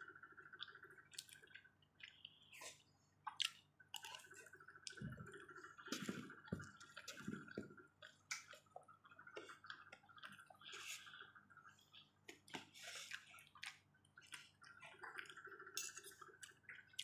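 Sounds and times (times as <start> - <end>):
chewing rice: 0.0 - 17.0.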